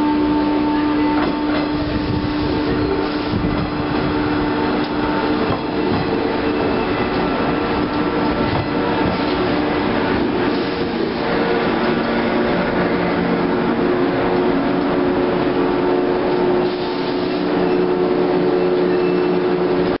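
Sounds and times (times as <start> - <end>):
electric train rolling past humming: 0.0 - 20.0.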